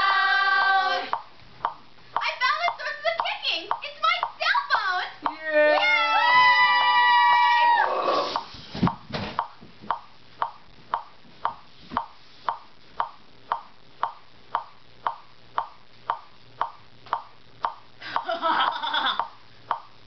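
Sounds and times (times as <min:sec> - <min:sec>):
clock ticking: 0:00.0 - 0:05.4, 0:08.4 - 0:20.0.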